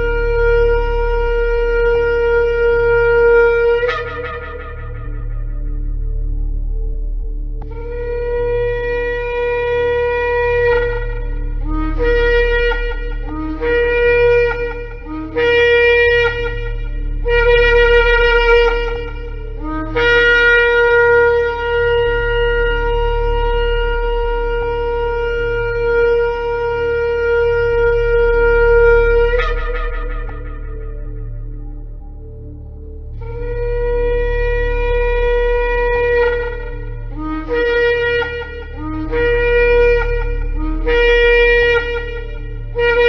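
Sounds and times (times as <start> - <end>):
shofar blasts: 0.0 - 7.0, 7.6 - 32.3, 33.2 - 43.0.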